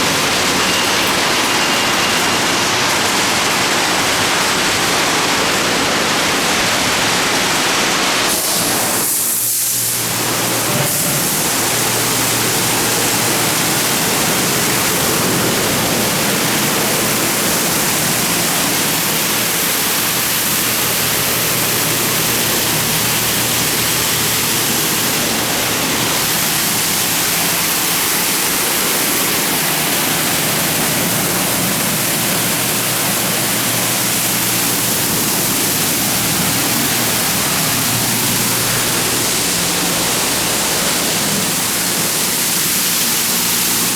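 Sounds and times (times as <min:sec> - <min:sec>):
water spraying onto car: 0:00.0 - 0:43.9.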